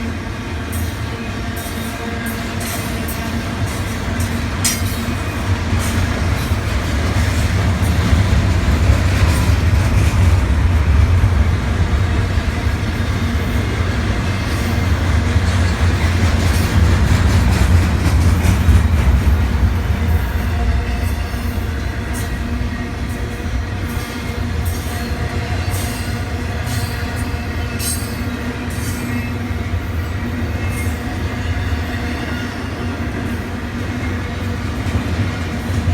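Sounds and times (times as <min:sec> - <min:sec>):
freight train rumbling on rails: 0:00.0 - 0:35.9.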